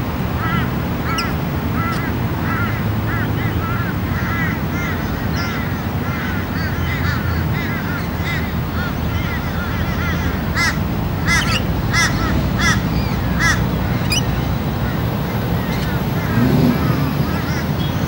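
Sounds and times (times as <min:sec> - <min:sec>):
bird calling: 0:00.4 - 0:18.0.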